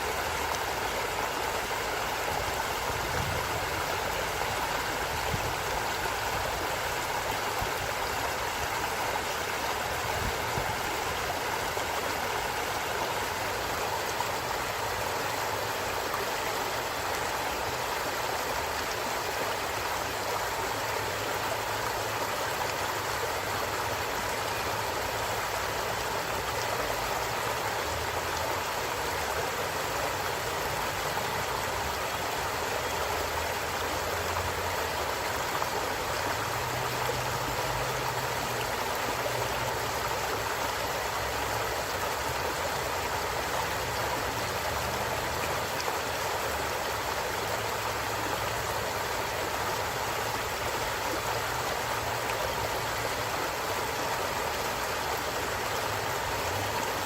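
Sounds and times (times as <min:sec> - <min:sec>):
stream rushing and gurgling: 0:00.0 - 0:57.0.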